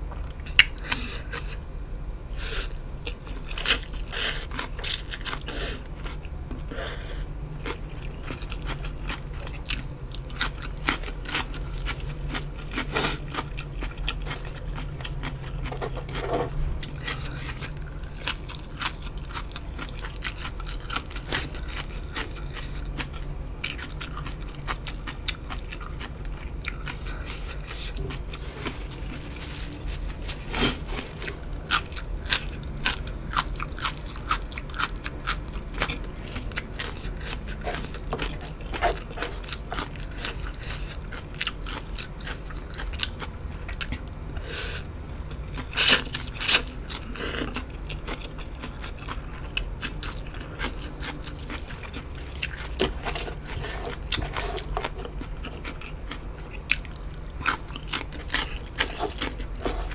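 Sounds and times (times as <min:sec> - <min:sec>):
low steady hum: 0:00.0 - 0:59.9
crunchy chewing: 0:02.4 - 0:59.9.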